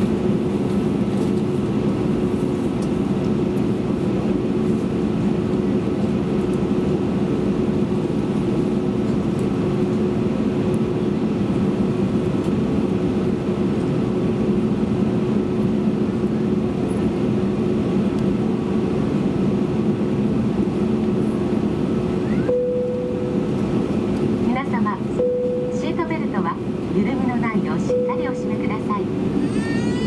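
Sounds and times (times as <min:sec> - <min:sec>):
aircraft cabin engine drone: 0:00.0 - 0:30.0.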